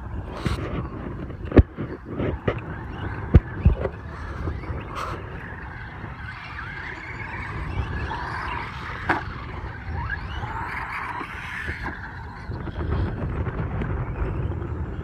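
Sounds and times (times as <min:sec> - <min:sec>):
rc truck motors whining: 0:00.0 - 0:15.0.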